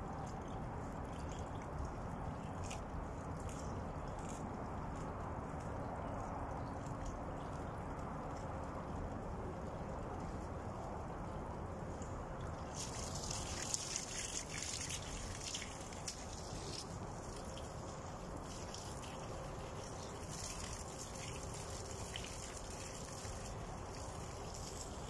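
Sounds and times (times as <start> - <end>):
water running from a hose: 0.0 - 8.9, 11.8 - 25.0.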